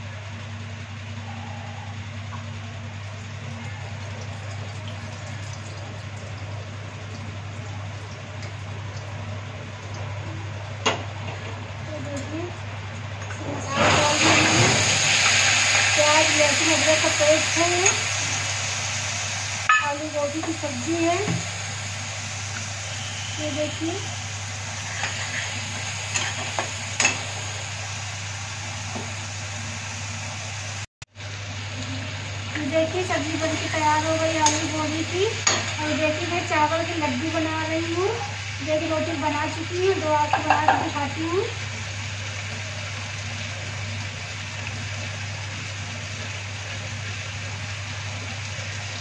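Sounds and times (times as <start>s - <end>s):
oil sizzling in a wok: 0.0s - 49.0s.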